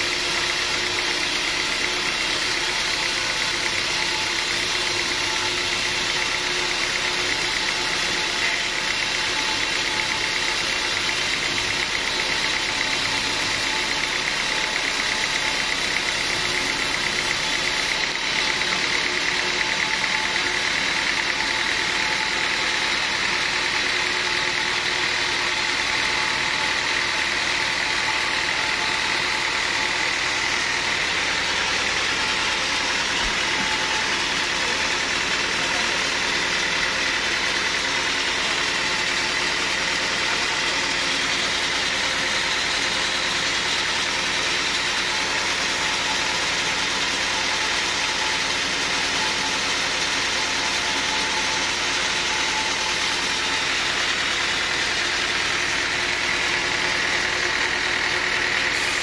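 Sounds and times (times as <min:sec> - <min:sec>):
high mechanical whine: 0:00.0 - 0:59.0
sawmill machinery drone: 0:00.0 - 0:59.0.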